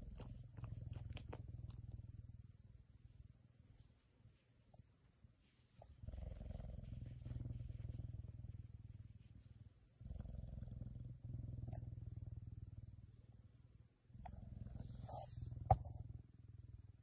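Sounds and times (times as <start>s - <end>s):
wild cat purring: 0.0s - 4.0s, 5.8s - 13.4s, 14.1s - 17.0s.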